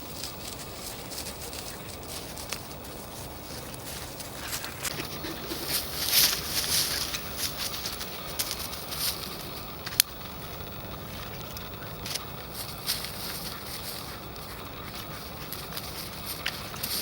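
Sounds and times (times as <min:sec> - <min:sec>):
footsteps crunching on forest ground: 0:00.0 - 0:17.0
rustling: 0:00.0 - 0:17.0.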